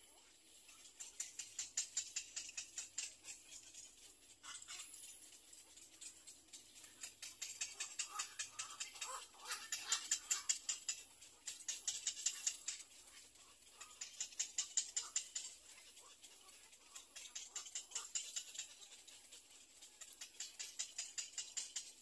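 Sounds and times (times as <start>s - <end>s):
rapid high-pitched ticking calls: 0.6s - 22.0s.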